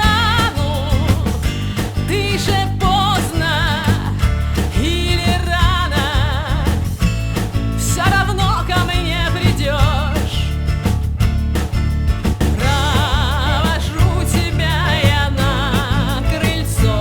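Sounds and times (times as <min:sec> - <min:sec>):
person singing with vibrato: 0:00.0 - 0:07.0, 0:07.8 - 0:10.6, 0:12.6 - 0:17.0
bass: 0:00.0 - 0:17.0
guitar: 0:00.0 - 0:17.0.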